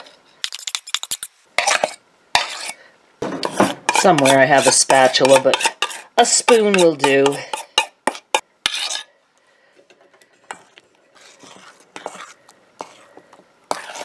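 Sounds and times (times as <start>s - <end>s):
spoon scraping and stirring: 0.0s - 9.2s, 9.8s - 14.0s.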